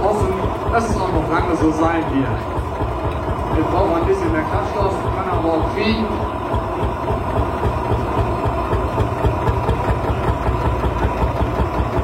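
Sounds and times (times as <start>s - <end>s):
tractor engine thumping: 0.0s - 12.0s.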